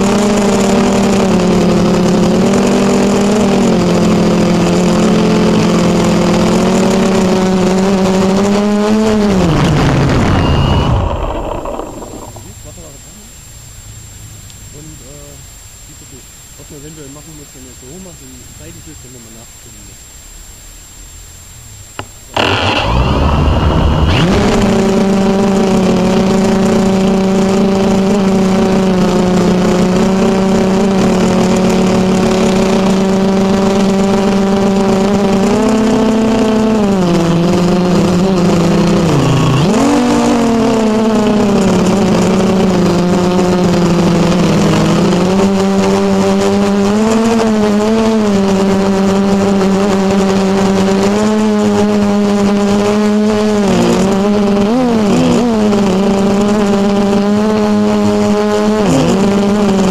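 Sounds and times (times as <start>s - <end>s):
model aircraft engine running: 0.0s - 13.1s, 22.0s - 59.9s.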